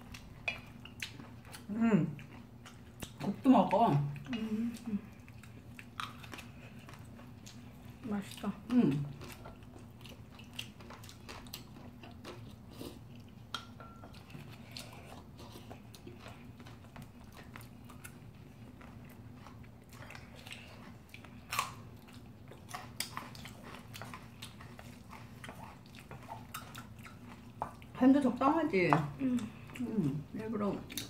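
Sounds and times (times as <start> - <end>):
people chewing food: 0.0 - 31.0.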